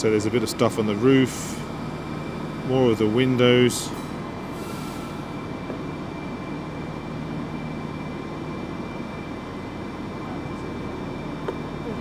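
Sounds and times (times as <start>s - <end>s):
train and station hum: 0.0s - 12.0s.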